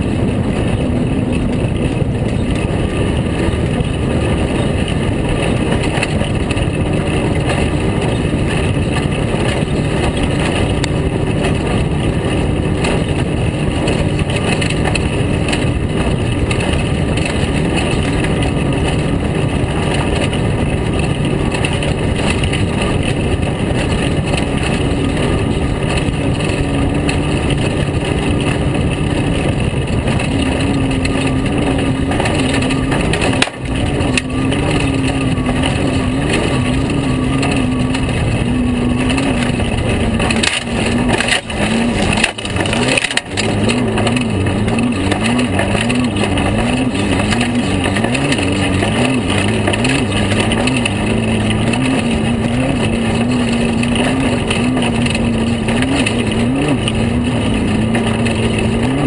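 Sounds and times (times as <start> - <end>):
race car engine running hard: 0.0 - 59.0
steady rush of noise: 0.0 - 59.0.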